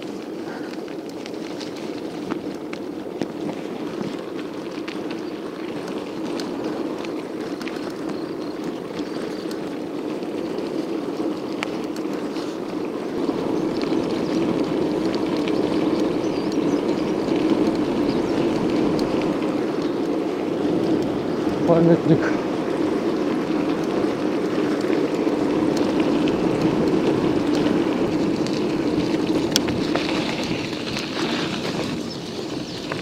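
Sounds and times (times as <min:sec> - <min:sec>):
wind and road rumble: 0:00.0 - 0:33.0.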